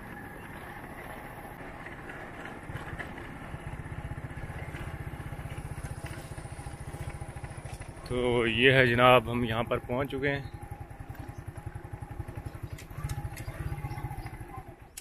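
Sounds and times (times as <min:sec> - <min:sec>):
motorcycle engine at low revs: 0:00.0 - 0:15.0
road noise: 0:00.0 - 0:15.0.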